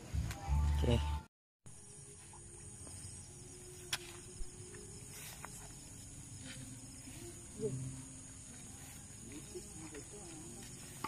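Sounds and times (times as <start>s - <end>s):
crickets chirring: 1.7s - 11.0s.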